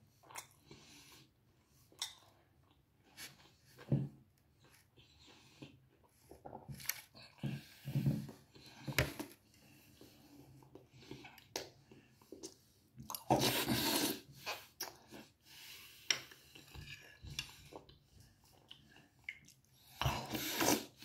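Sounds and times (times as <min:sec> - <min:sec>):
man chewing food: 0:00.1 - 0:21.0.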